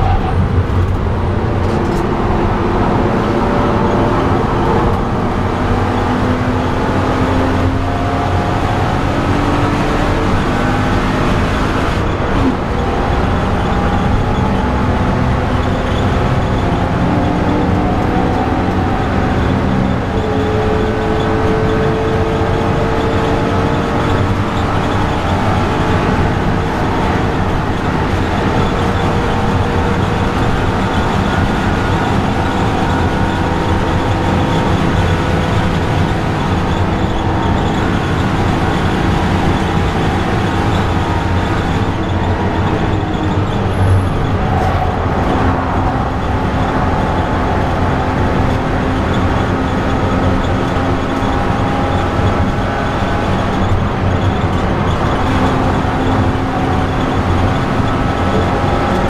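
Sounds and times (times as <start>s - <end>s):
car engine under hard driving: 0.0s - 59.0s
road and tyre noise: 0.0s - 59.0s.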